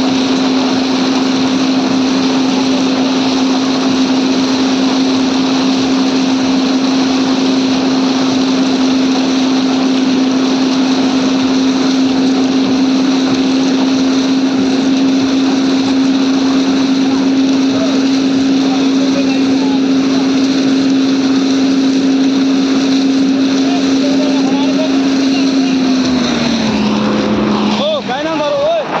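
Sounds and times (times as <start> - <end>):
machine motor humming: 0.0 - 29.0.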